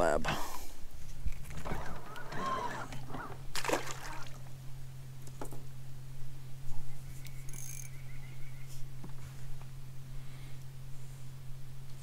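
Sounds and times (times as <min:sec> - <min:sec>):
electric boat motor humming: 0:01.1 - 0:12.0.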